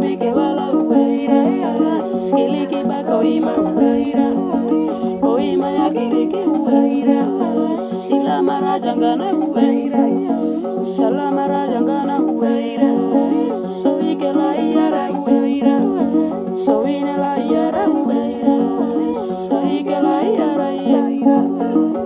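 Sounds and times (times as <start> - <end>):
person singing: 0.0 - 22.0
plucked strings: 0.0 - 22.0.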